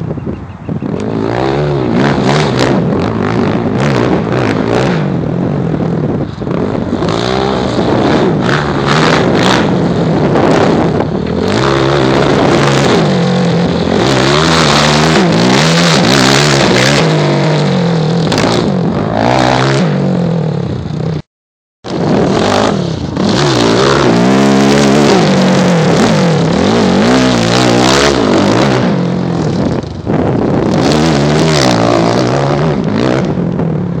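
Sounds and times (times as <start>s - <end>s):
quad engine revving: 0.8s - 21.2s, 21.9s - 34.0s.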